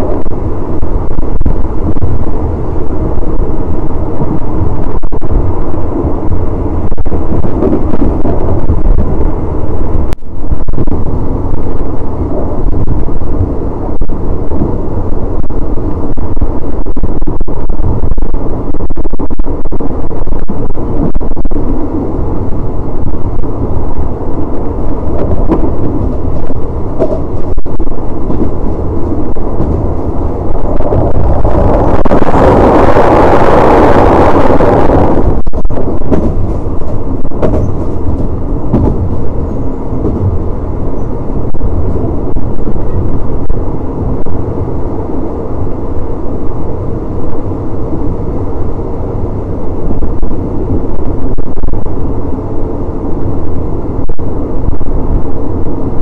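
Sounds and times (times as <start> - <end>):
train carriage rumble and clatter: 0.0 - 56.0
wind buffeting microphone: 0.0 - 56.0.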